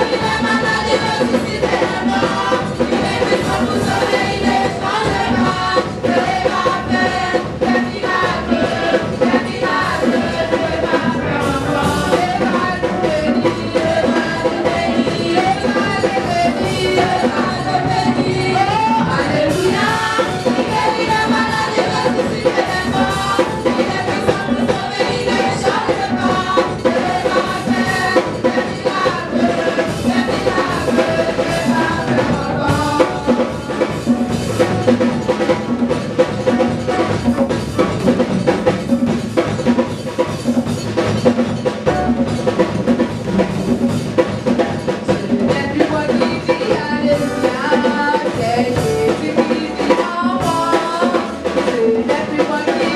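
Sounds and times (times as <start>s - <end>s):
women singing gospel: 0.0s - 40.8s, 41.8s - 52.9s
drum kit beat: 0.0s - 52.9s.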